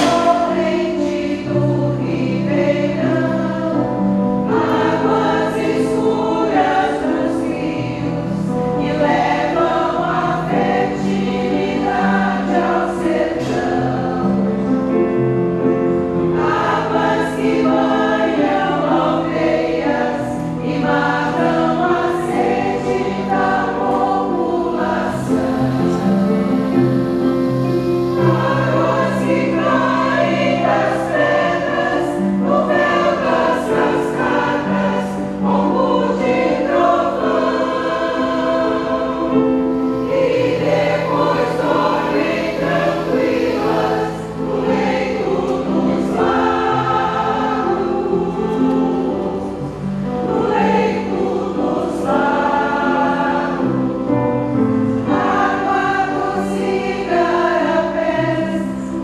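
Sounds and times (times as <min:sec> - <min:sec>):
keyboard accompaniment: 0:00.0 - 0:59.0
mixed choir singing: 0:00.0 - 0:59.0.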